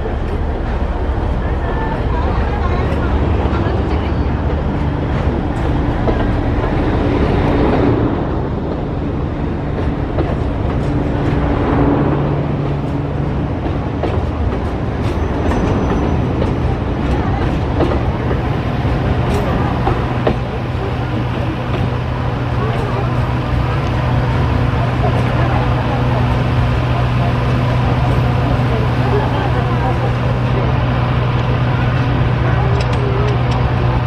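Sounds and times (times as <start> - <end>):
diesel locomotive engine hum: 0.0 - 34.0.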